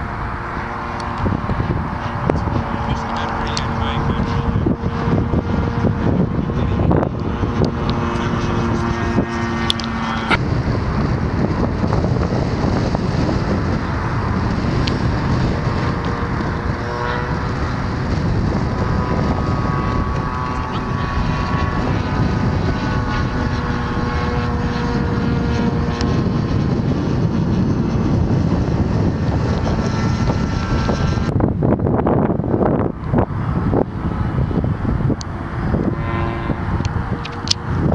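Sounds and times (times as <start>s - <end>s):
model airplane motor buzzing: 0.0s - 37.9s
wind noise on microphone: 0.0s - 37.9s.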